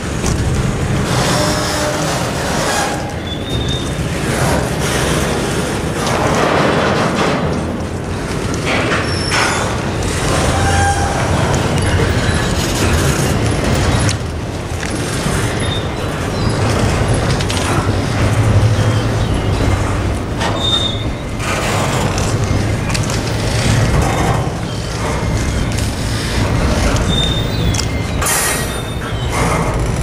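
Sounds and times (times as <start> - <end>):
train wheels rumbling on rails: 0.0 - 30.0
wheel squeals: 1.0 - 6.5, 8.6 - 30.0.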